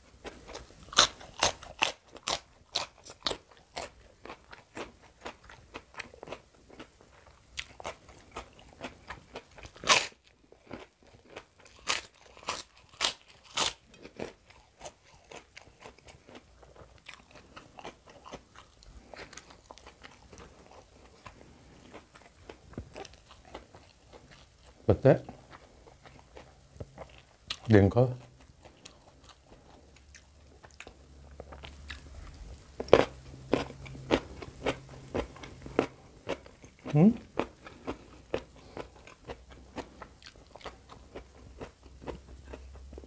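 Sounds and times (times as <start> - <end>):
crunching and chewing crisp food: 0.0 - 43.0.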